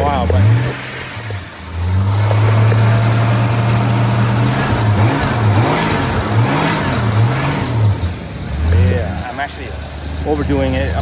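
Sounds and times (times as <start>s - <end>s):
car engine idling and revving: 0.0s - 11.0s
engine belt squeal: 0.0s - 11.0s.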